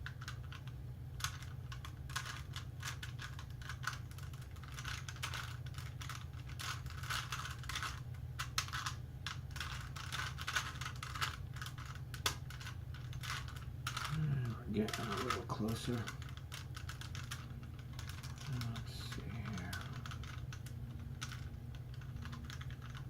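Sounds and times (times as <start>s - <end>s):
puzzle cube layers clicking: 0.0s - 23.0s
steady low hum: 0.0s - 23.0s.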